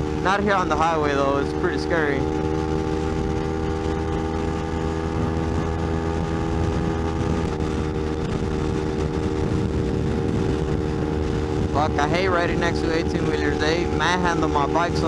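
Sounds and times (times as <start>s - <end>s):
motorcycle engine at speed: 0.0s - 15.0s
wind and road rush: 0.0s - 15.0s.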